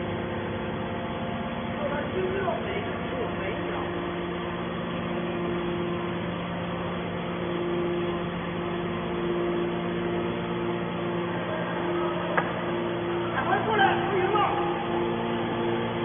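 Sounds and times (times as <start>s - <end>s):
hydraulic baler humming: 0.0s - 16.0s.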